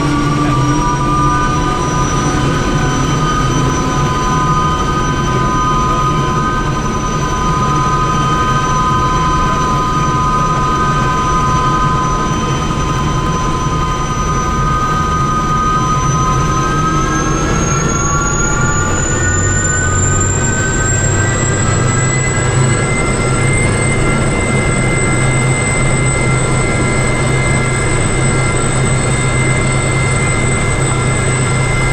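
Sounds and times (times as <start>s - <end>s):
helicopter turbine and rotors: 0.0s - 31.9s.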